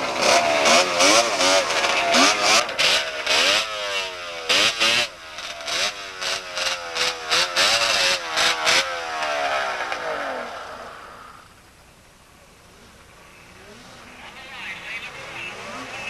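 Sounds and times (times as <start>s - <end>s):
snowmobile engines revving: 0.0s - 11.5s, 12.4s - 16.0s.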